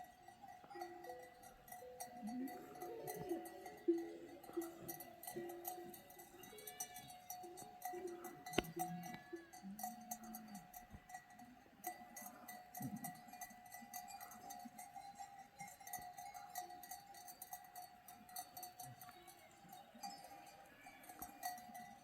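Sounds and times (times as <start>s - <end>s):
animal neck bells clanking: 0.0s - 22.0s.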